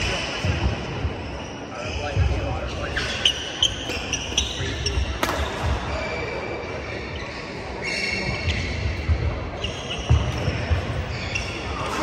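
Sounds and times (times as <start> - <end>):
shoes squeaking on court: 0.2 - 12.0.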